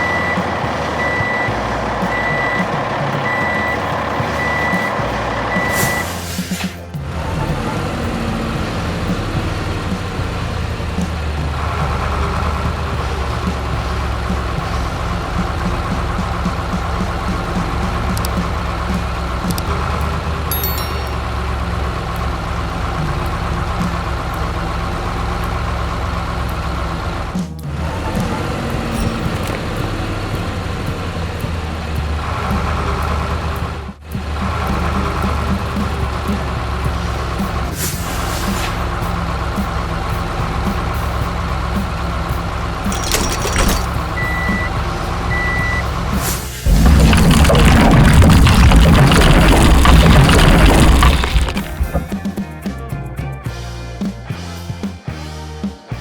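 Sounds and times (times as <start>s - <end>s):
heavy vehicle engine rumbling: 0.0s - 52.6s.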